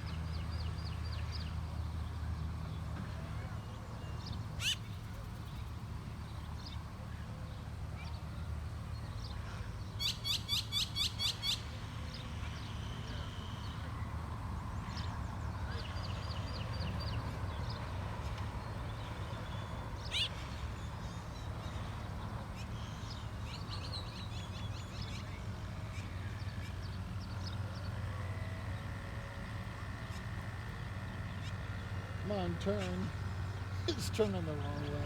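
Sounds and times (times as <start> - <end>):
birds chirping: 0.1 - 28.0, 28.7 - 35.0.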